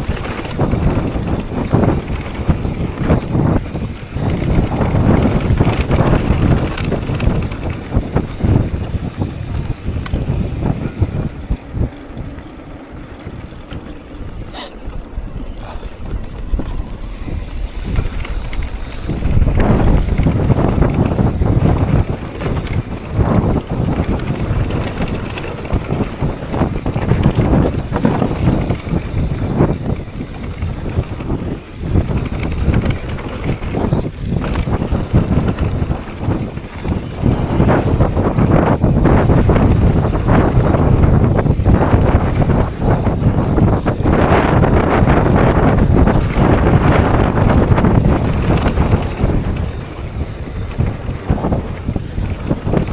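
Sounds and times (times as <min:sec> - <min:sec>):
bike rattles and knocks: 0:00.0 - 0:52.9
bike tyres rumbling: 0:00.0 - 0:52.9
wind buffeting microphone: 0:00.0 - 0:52.9.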